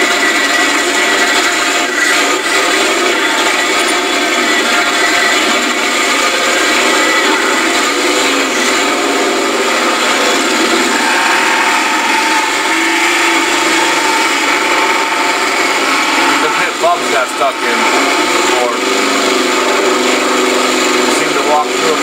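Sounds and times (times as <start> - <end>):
truck engine running loud: 0.0 - 22.0.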